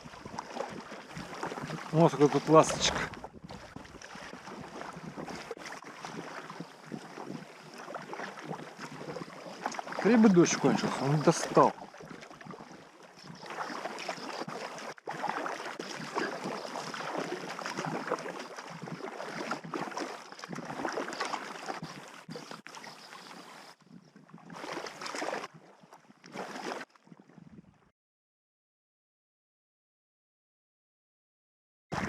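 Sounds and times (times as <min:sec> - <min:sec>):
water splashing around boat: 0:00.0 - 0:27.9.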